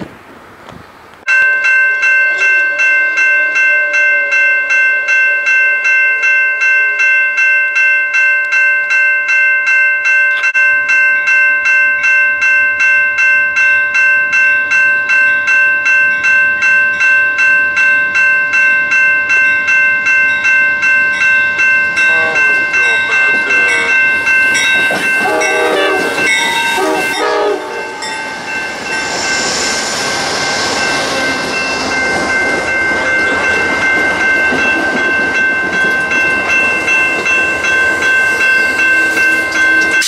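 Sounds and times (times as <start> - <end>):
railroad crossing bell ringing: 1.2 - 40.0.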